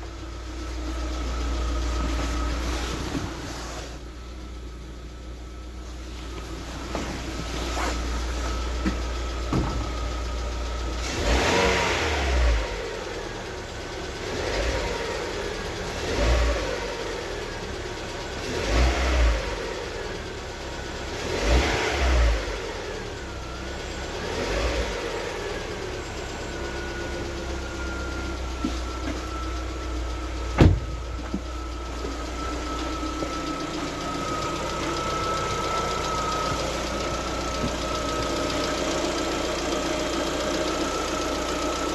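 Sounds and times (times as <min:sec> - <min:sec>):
car engine revving and idling: 0:00.0 - 0:41.9.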